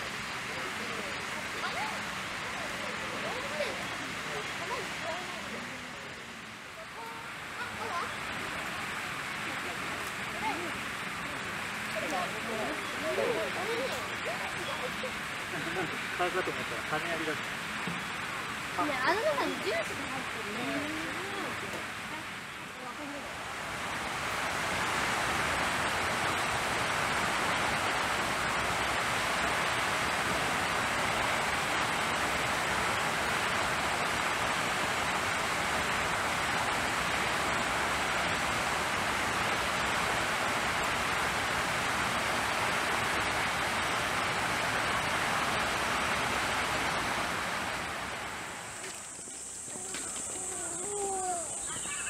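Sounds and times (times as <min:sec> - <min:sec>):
steady rushing noise: 0:00.0 - 0:50.2.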